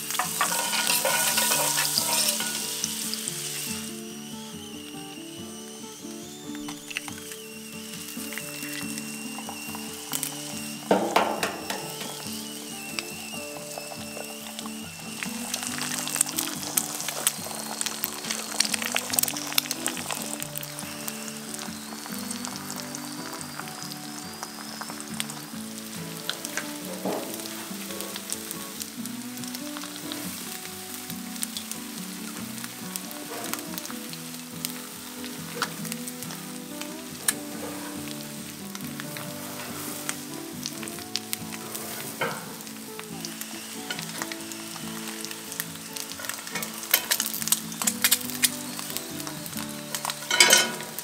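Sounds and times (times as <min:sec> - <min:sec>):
eggs and bacon sizzling: 0:00.0 - 0:51.0
oil popping: 0:00.0 - 0:51.0.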